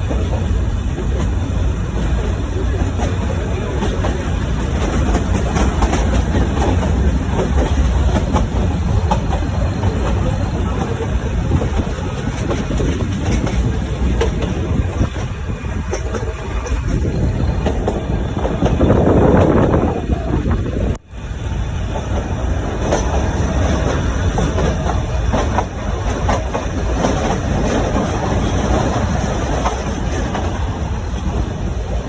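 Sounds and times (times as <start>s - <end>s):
wheels clicking over rail joints: 0.0s - 21.0s, 21.8s - 32.0s
train rumbling: 0.0s - 32.0s.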